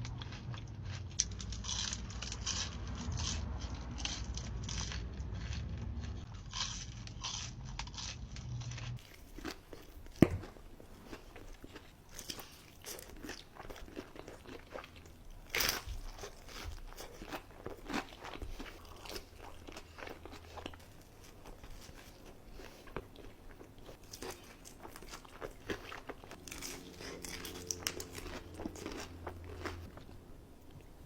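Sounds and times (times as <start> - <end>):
crisp crunching bites and chewing: 0.0 - 30.8.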